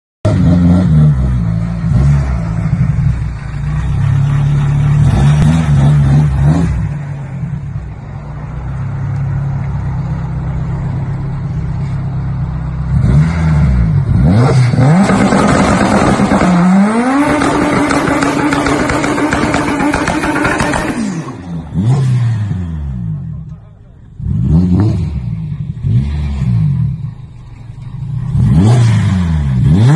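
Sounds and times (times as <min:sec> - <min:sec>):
car engine revving: 0:00.3 - 0:29.9.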